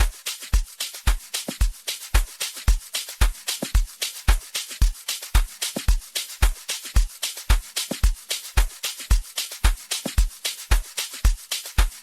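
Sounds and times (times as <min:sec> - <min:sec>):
kick drum: 0:00.0 - 0:12.0.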